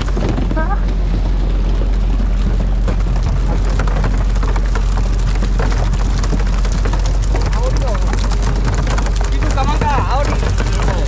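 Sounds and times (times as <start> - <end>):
boat engine running: 0.0 - 11.0
water patter: 0.0 - 11.0.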